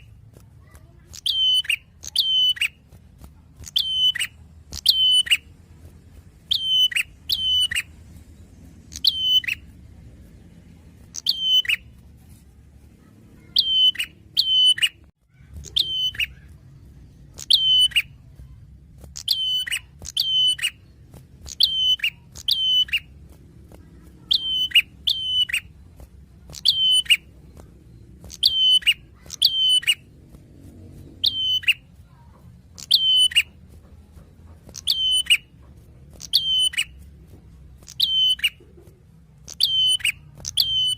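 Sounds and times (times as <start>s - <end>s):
bird chirping: 0.0s - 12.4s, 13.0s - 40.9s.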